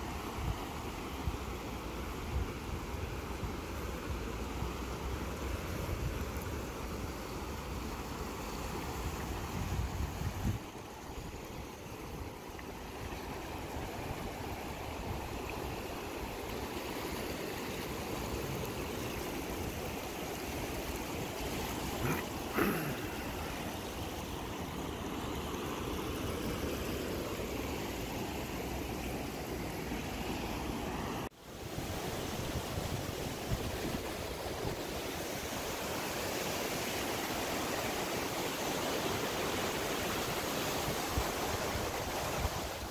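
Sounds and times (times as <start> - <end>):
rushing whitewater: 0.0 - 42.9.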